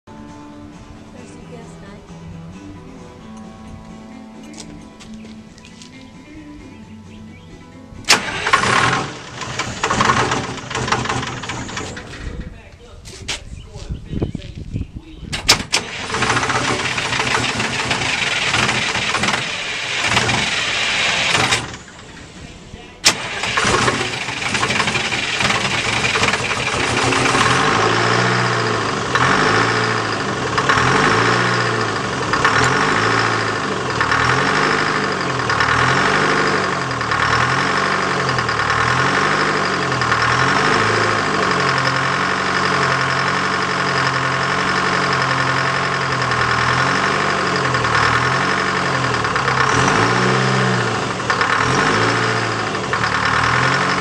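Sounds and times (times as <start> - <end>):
diesel engine running: 6.5 - 13.0, 15.3 - 54.0.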